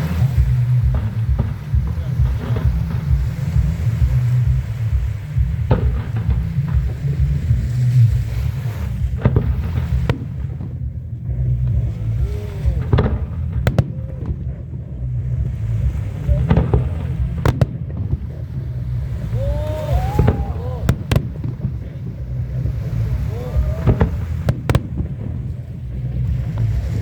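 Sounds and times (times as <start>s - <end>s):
fireworks booming: 0.0s - 27.0s
fireworks sharp cracks: 0.0s - 27.0s.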